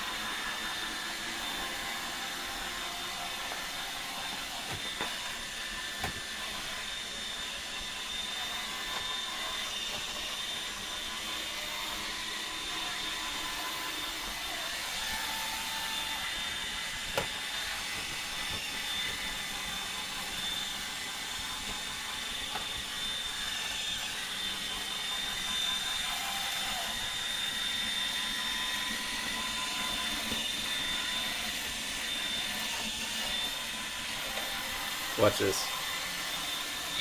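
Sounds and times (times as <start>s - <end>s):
robot vacuum running: 0.0s - 37.0s.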